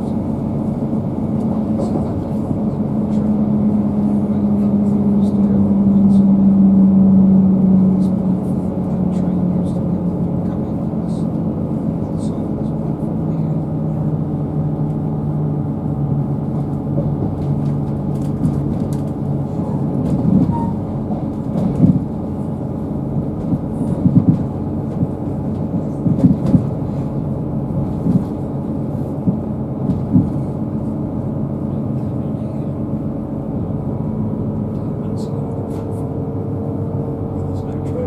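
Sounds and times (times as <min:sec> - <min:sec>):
train engine and running hum: 0:00.0 - 0:38.0.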